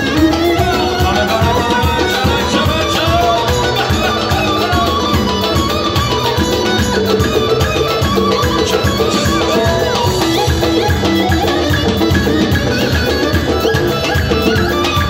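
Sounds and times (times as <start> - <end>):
music with steady beat: 0.0 - 15.0
plucked string instrument: 0.0 - 15.0.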